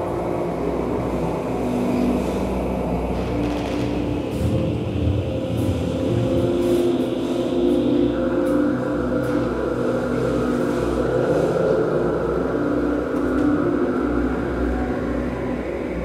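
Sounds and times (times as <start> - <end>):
ambient synthesizer drone music: 0.0 - 16.0.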